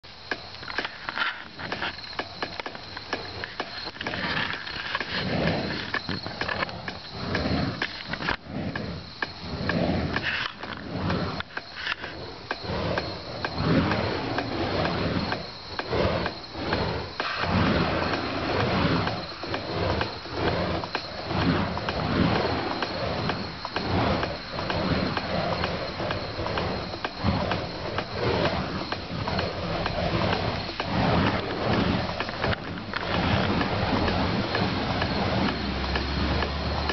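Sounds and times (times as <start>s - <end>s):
flaming hammers whooshing: 0.0s - 36.9s.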